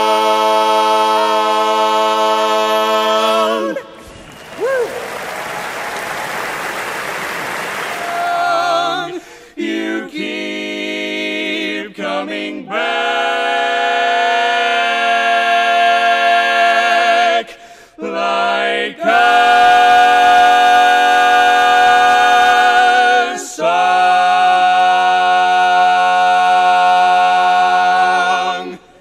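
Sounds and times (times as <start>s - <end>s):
men singing in harmony: 0.0s - 4.1s, 8.1s - 29.0s.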